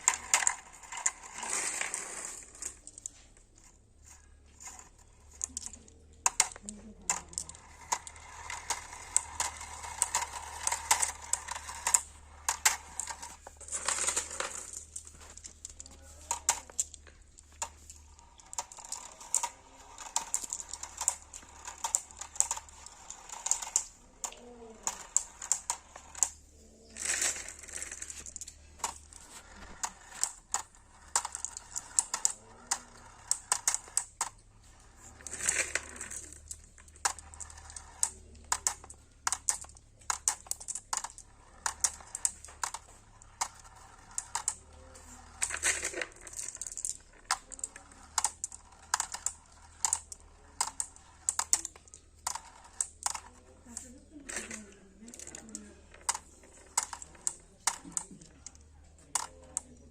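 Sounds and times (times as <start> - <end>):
marbles clacking down marble run: 0.0 - 59.9
marbles rattling: 0.0 - 59.9.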